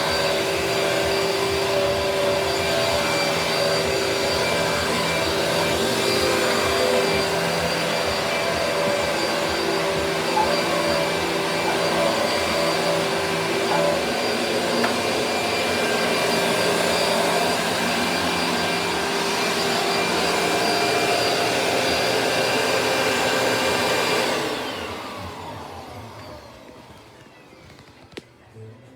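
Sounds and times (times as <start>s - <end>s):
vacuum cleaner motor whining: 0.0s - 28.5s.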